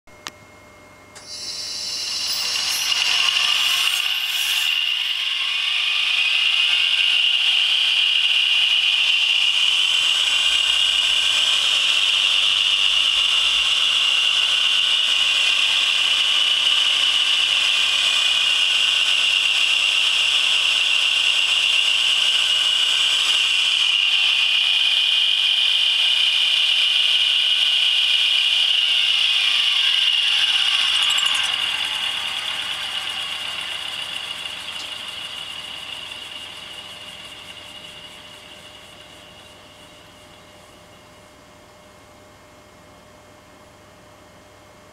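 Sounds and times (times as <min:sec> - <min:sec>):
balancing machine spinning with whine: 0:00.1 - 0:42.9.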